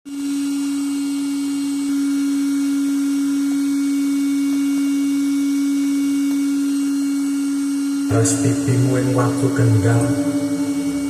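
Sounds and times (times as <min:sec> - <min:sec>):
steady loud tone from speaker: 0:00.2 - 0:11.0.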